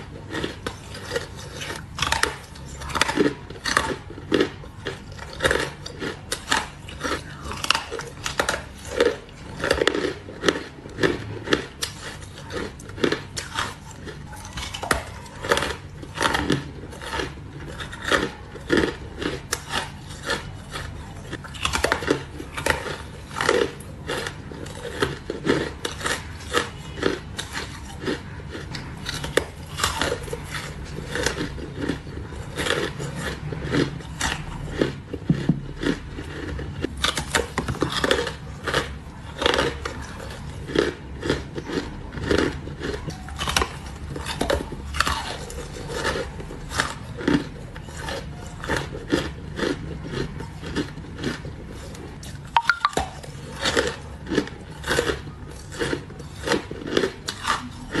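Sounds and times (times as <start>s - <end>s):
ice cubes crunching in mouth: 0.0s - 58.0s.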